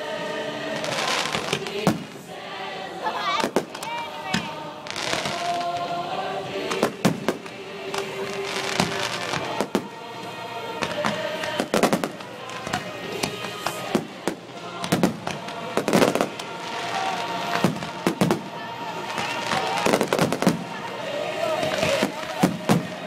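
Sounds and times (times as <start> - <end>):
fireworks bursting with bangs and crackles: 0.7 - 2.3, 3.1 - 23.0.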